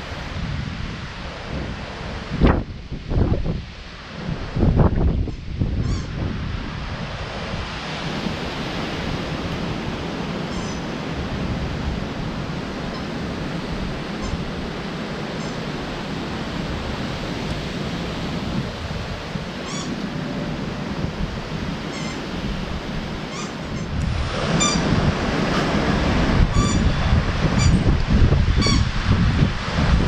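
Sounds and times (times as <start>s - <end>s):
gusty wind through tree leaves: 0.0s - 30.0s
wind buffeting microphone: 0.0s - 30.0s.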